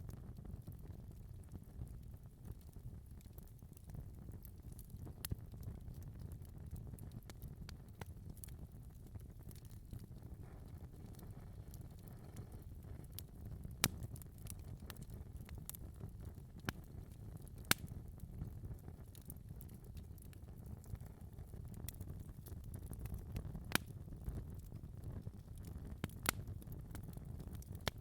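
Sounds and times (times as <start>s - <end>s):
fire crackling in fireplace: 0.0s - 28.0s
fire popping: 0.0s - 28.0s.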